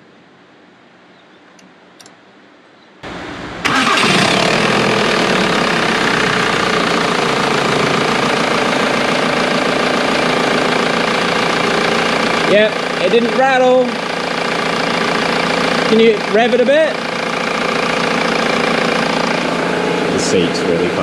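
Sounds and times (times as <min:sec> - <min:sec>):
diesel engine idling: 0:03.0 - 0:21.0
diesel engine starter cranking: 0:03.1 - 0:21.0.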